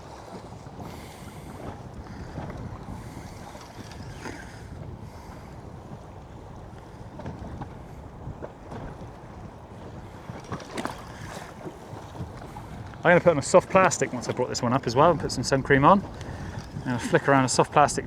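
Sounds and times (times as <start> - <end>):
water lapping against boat hull: 0.0 - 18.0
wind buffeting microphone: 0.0 - 18.0.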